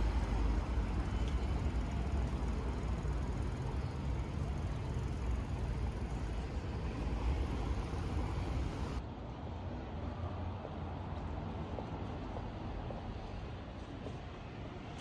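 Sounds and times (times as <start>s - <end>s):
dull street hum: 0.0s - 15.0s
road traffic rumble and hiss: 0.0s - 15.0s.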